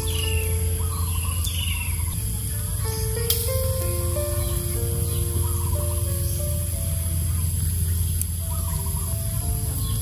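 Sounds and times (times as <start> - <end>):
music of held notes: 0.0 - 10.0.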